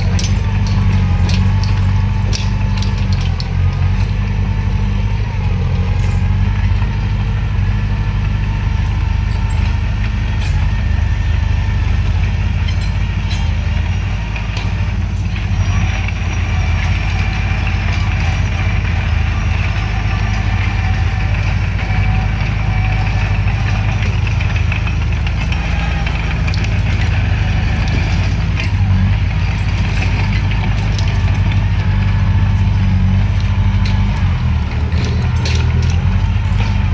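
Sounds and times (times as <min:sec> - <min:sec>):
metallic clanks: 0:00.0 - 0:21.2, 0:23.3 - 0:36.9
bulldozer diesel engine running: 0:00.0 - 0:36.9.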